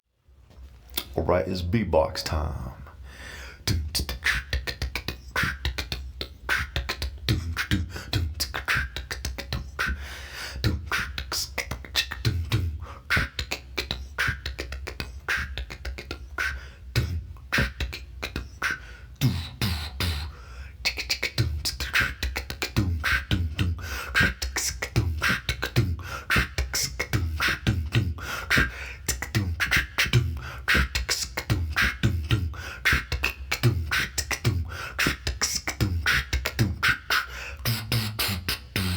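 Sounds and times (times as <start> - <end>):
person beatboxing: 0.9 - 2.9, 3.6 - 38.9.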